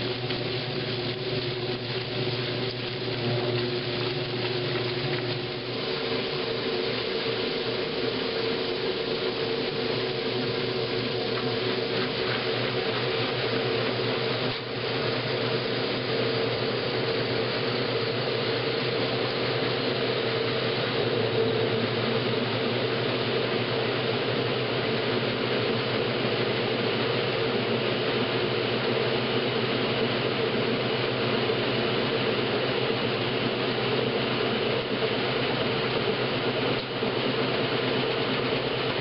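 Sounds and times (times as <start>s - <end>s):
washing machine spinning: 0.0s - 39.0s.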